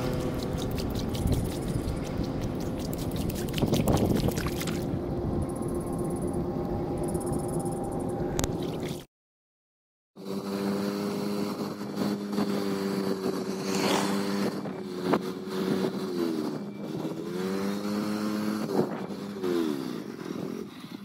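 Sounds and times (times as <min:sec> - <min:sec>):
road and wind noise: 0:00.0 - 0:09.1, 0:10.2 - 0:21.0
vehicle engine hum: 0:00.0 - 0:09.1, 0:10.2 - 0:21.0.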